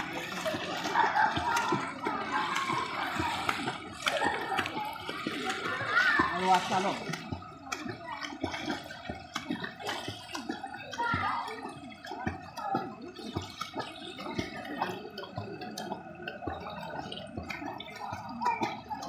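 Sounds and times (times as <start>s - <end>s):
water splashing from kicking legs: 0.0s - 19.0s.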